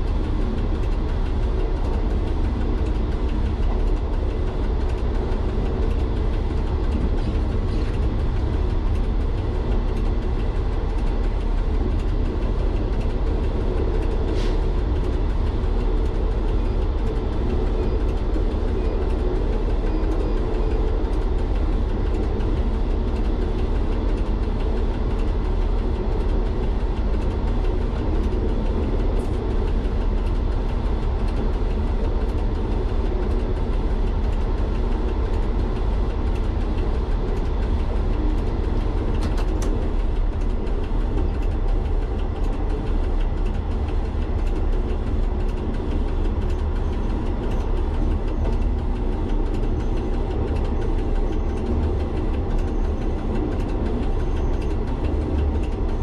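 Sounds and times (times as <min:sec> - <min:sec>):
diesel engine running: 0:00.0 - 0:56.0
train running noise: 0:00.0 - 0:56.0.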